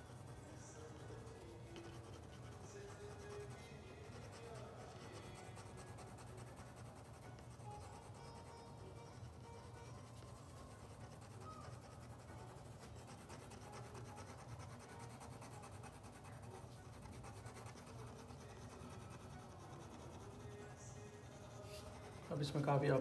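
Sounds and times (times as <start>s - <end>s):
drawing tool scratching paper: 0.0s - 23.0s.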